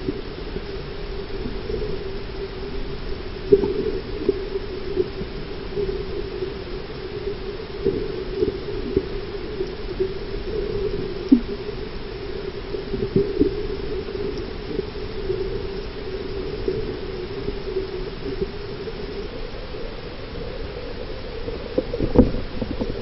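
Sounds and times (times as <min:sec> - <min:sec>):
underwater hiss: 0:00.0 - 0:23.0.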